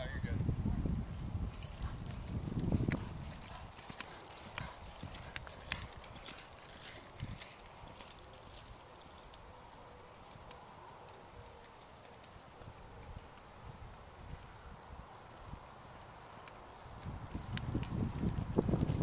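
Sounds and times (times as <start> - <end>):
faint hoofbeats on dirt: 0.0 - 19.0.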